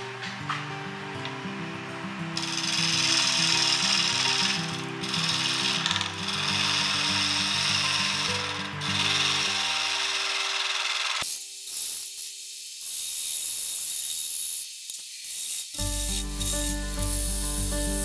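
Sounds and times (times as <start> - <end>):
wood lathe cutting hiss: 2.4 - 18.0.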